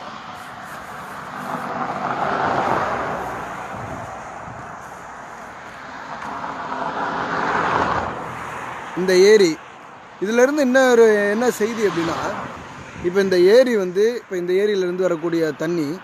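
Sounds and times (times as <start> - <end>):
vehicles passing on road: 0.0 - 16.0.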